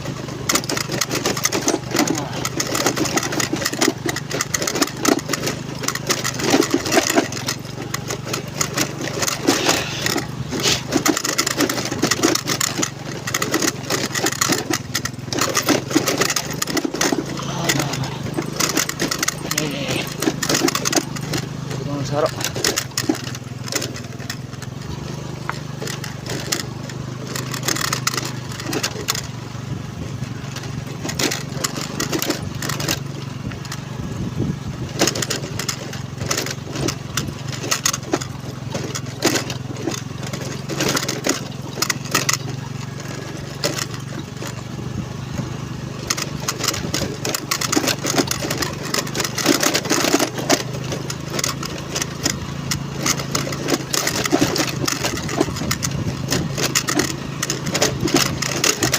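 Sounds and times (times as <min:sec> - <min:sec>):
knocks and rattles from bike: 0:00.0 - 0:58.9
motorcycle engine running: 0:00.0 - 0:58.9.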